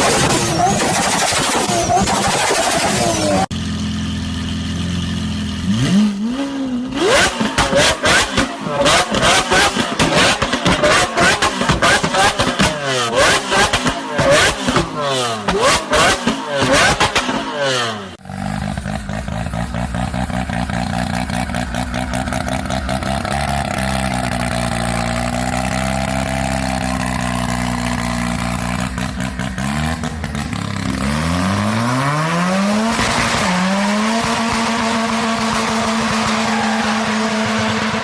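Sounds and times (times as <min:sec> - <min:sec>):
sports car engine revving: 0:00.0 - 0:38.0.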